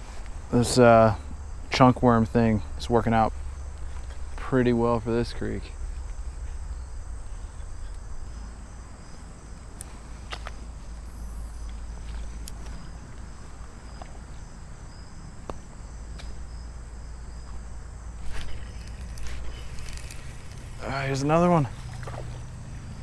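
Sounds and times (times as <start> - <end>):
crickets chirping: 0.0 - 23.0
low outdoor rumble: 0.0 - 23.0.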